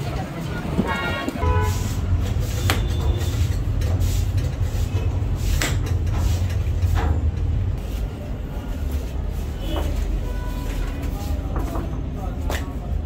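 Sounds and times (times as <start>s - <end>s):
low mechanical rumble: 1.4s - 13.0s.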